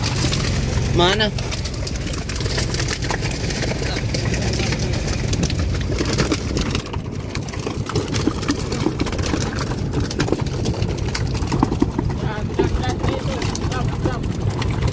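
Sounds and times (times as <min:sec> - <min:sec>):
boat engine running: 0:00.0 - 0:14.9
knocks and clatter: 0:00.0 - 0:14.9.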